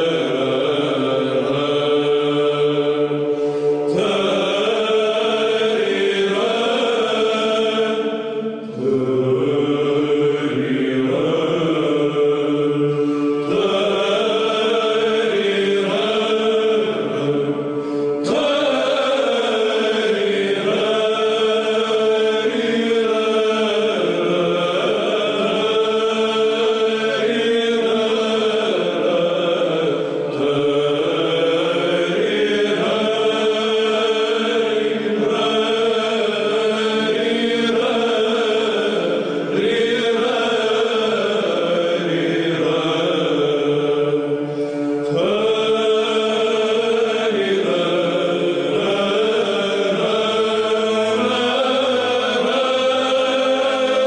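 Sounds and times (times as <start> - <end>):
voices chanting slow melody: 0.0 - 54.0.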